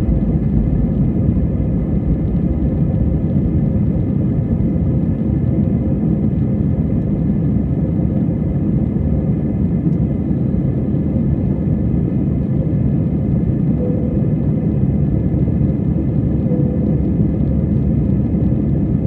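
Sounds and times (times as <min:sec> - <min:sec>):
faint steady hum: 0:00.0 - 0:19.0
jet cabin engine roar: 0:00.0 - 0:19.0.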